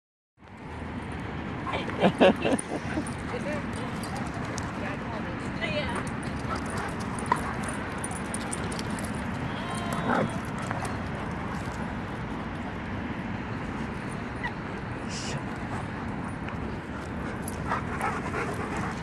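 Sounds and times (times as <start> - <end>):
steady background noise: 0.4 - 19.0.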